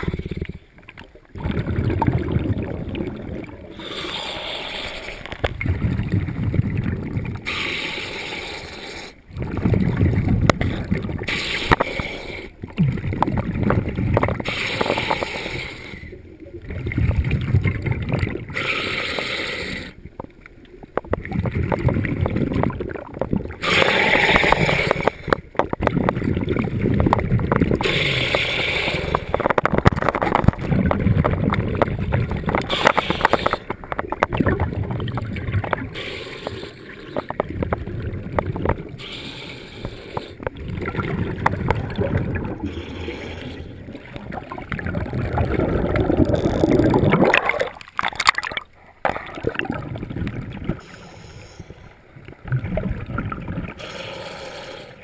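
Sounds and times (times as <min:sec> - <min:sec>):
bubbling hiss of exhaled bubbles: 0:00.0 - 0:00.6, 0:01.4 - 0:20.0, 0:21.2 - 0:48.2.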